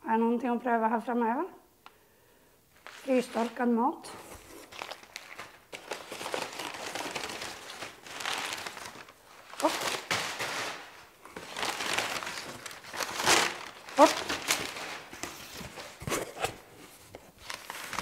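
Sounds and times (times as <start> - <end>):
paper rustling and crinkling: 2.8 - 18.0.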